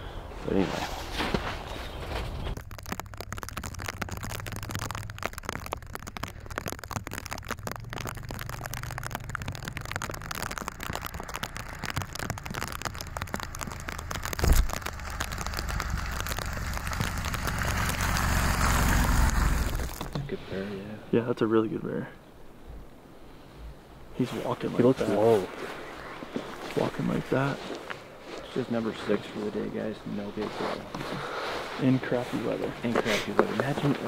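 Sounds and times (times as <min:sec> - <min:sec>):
dense crackle: 0:00.0 - 0:22.2, 0:23.4 - 0:34.0.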